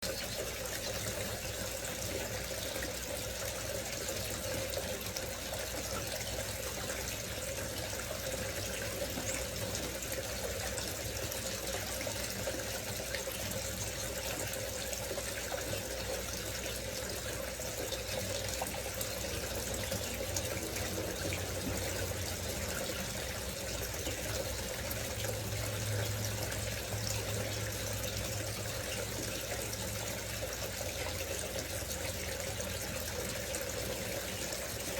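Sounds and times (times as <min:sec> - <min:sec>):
water fountain splashing: 0:00.0 - 0:34.9.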